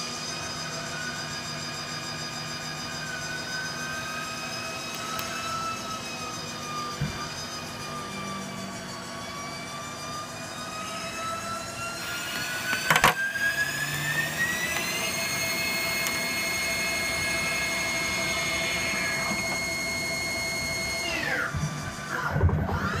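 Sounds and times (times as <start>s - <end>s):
lathe spindle whining: 0.0s - 23.0s.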